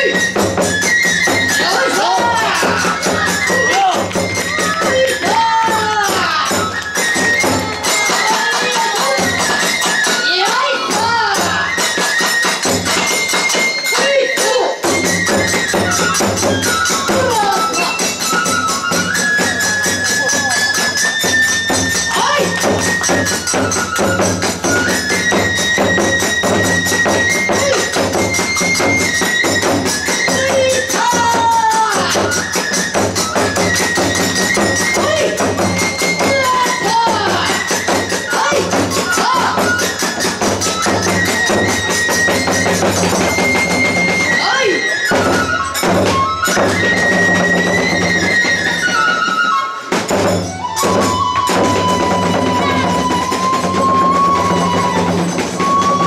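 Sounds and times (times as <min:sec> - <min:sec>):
small drum: 0:00.0 - 0:13.8, 0:14.8 - 0:56.0
high bamboo flute melody: 0:00.0 - 0:56.0
jangling hand cymbals: 0:00.0 - 0:56.0.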